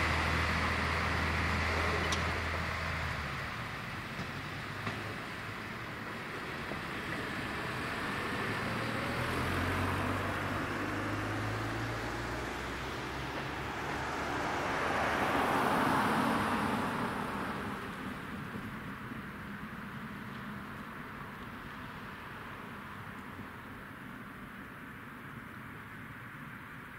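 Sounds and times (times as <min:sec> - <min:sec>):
vehicles driving past: 0:00.0 - 0:26.9.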